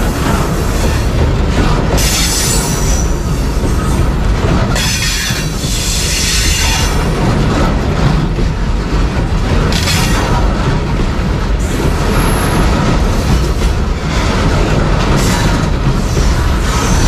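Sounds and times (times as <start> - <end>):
freight train wagons rolling past: 0.0 - 17.0
wheels clattering on rail: 0.0 - 17.0.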